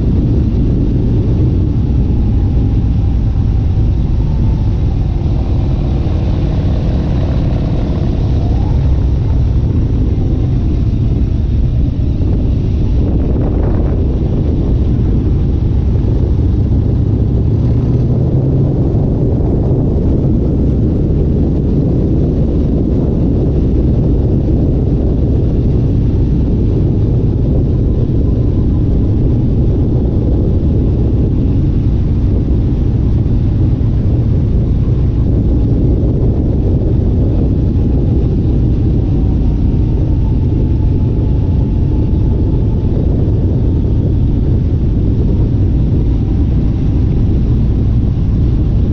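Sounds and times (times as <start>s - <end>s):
vehicle low rumble: 0.0s - 48.9s.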